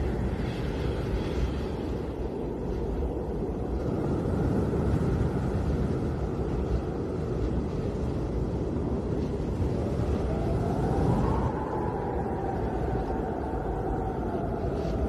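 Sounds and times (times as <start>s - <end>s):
faint whistle of wind: 0.0s - 15.0s
snowstorm wind blowing: 0.0s - 15.0s.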